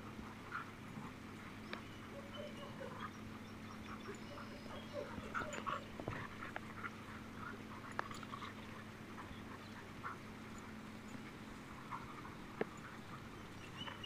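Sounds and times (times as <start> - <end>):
steady low hum: 0.0 - 14.0
dogs yipping and whimpering: 0.1 - 14.0.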